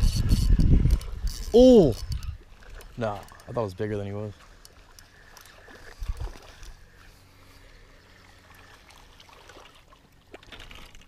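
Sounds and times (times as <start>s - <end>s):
low steady hum: 0.0s - 11.0s
water lapping against boat hull: 0.0s - 11.0s.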